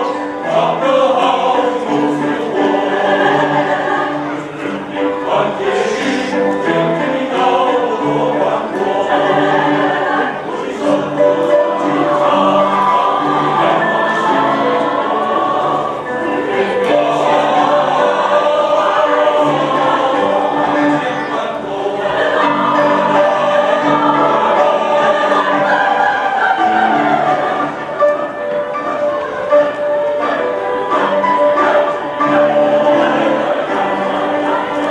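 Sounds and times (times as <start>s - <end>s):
choir singing with accompaniment: 0.0s - 34.9s.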